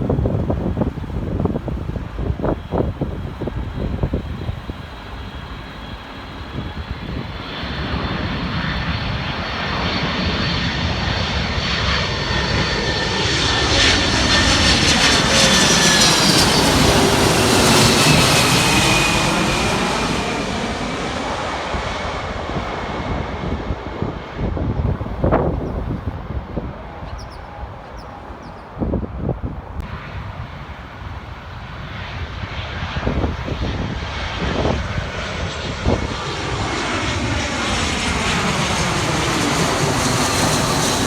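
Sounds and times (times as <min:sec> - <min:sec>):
airliner engine rumble: 0:00.0 - 0:41.0
jet engine whine: 0:00.0 - 0:41.0.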